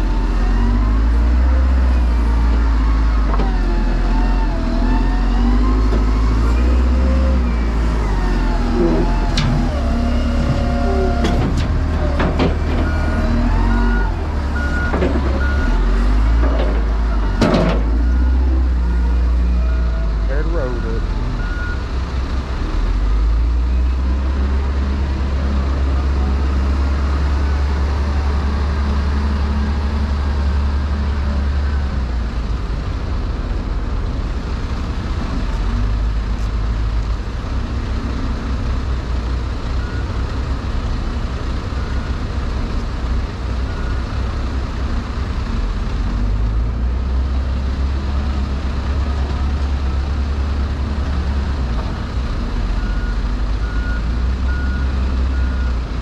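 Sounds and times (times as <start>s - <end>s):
diesel engine rumbling: 0.0s - 56.0s.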